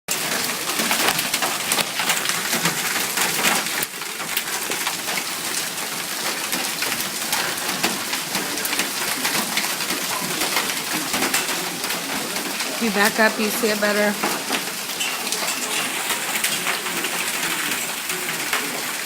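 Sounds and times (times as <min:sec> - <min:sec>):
hail and rain pelting: 0:00.1 - 0:19.0.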